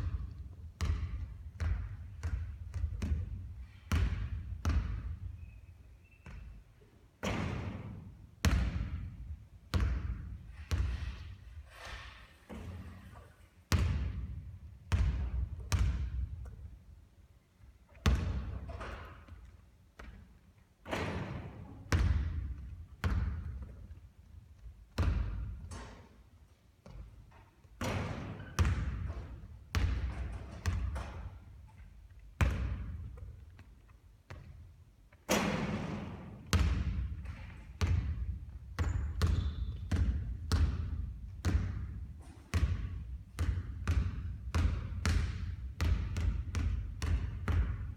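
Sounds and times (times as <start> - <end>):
basketball bouncing on court: 0.0 - 5.4, 7.2 - 11.3, 13.7 - 16.8, 17.9 - 24.0, 24.6 - 26.1, 26.8 - 31.6, 32.3 - 47.9.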